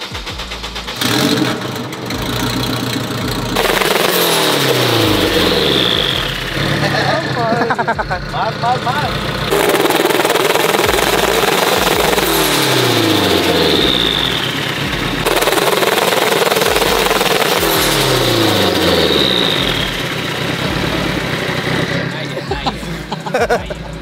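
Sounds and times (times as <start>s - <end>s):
turbocharged engine revving: 0.0s - 24.0s.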